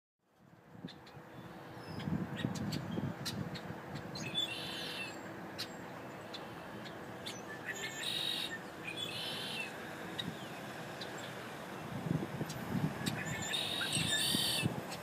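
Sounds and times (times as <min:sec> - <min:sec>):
small birds chirping: 0:00.8 - 0:15.0.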